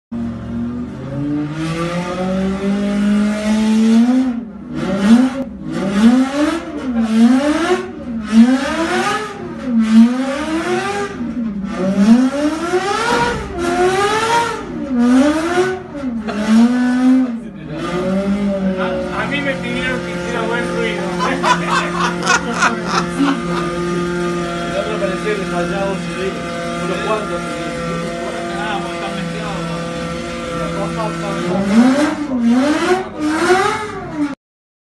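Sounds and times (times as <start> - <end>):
racing engine revving: 0.2 - 34.4.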